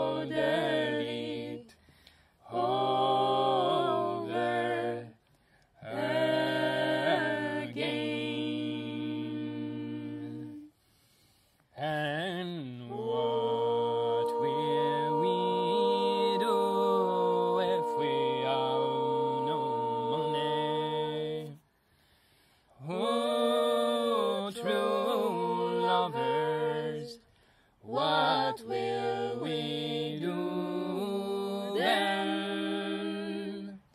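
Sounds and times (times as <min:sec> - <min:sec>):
voices singing a cappella in harmony: 0:00.0 - 0:33.9.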